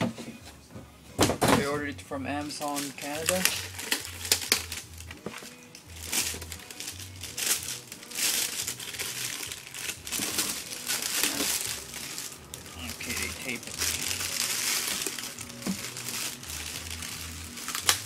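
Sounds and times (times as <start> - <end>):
packaging crinkling: 2.6 - 18.0.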